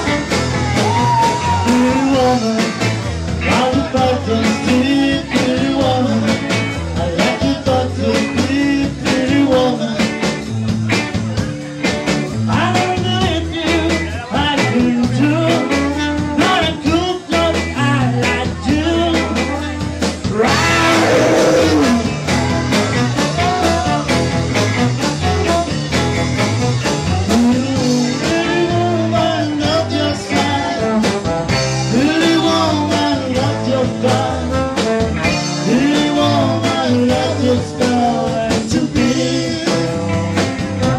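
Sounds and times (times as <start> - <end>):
bass guitar: 0.0 - 40.9
electric guitars: 0.0 - 40.9
steady drum beat: 0.0 - 40.9.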